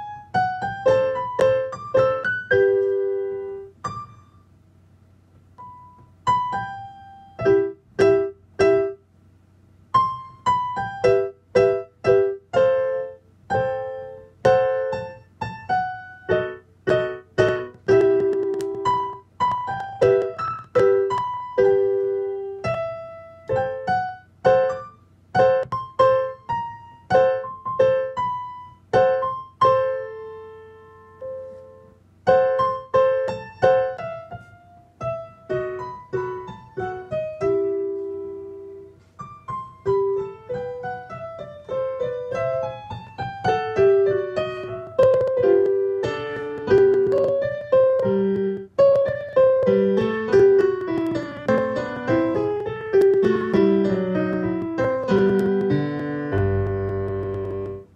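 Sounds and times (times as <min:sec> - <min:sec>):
piano notes and phrases: 0:00.0 - 0:57.9.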